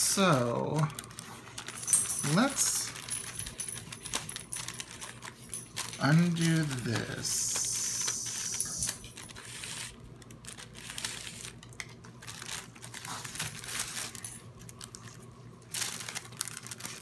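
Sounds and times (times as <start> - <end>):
wax paper crinkling: 0.0 - 17.0.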